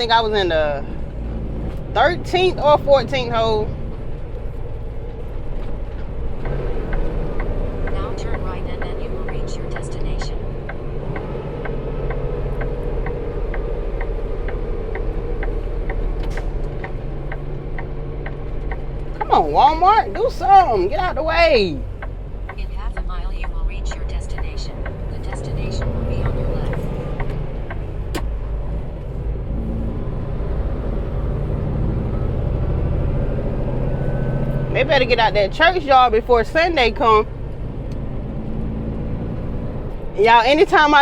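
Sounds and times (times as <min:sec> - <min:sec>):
turn signal clicking: 0:00.0 - 0:32.0, 0:33.1 - 0:41.0
truck engine drone: 0:00.0 - 0:41.0.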